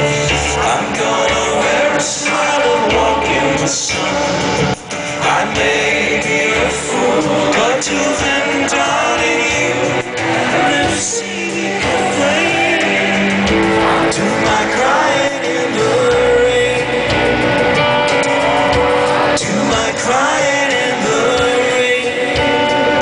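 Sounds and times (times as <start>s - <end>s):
pop-rock band playing: 0.0s - 23.0s.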